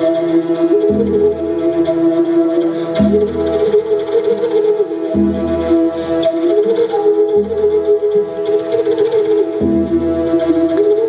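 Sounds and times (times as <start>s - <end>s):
bamboo flute melody: 0.0s - 11.0s.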